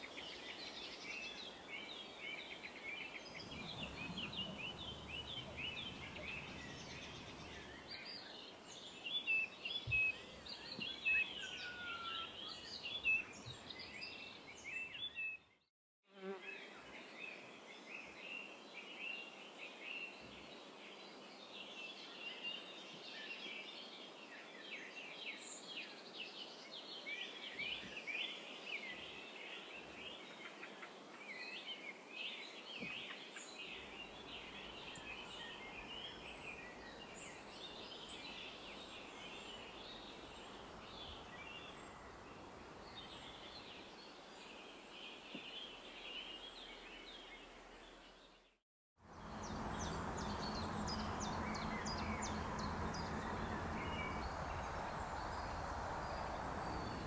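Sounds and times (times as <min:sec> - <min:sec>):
steady outdoor hiss: 0:00.0 - 0:15.3, 0:16.2 - 0:57.0
small birds twittering: 0:00.0 - 0:15.6, 0:16.2 - 0:57.0.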